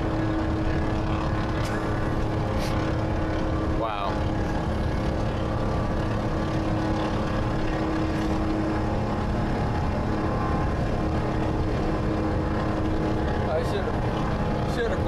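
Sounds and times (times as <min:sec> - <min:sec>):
truck diesel engine droning: 0:00.0 - 0:15.0.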